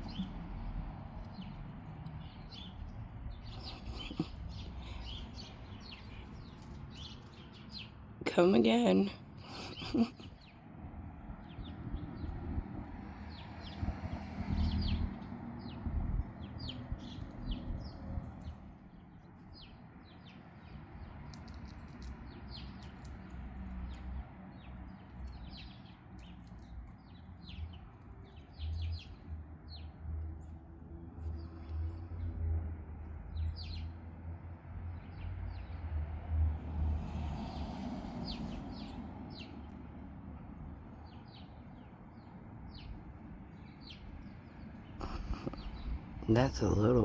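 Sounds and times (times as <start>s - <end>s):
small birds chirping: 0.0s - 34.1s, 35.0s - 35.9s, 37.5s - 47.0s.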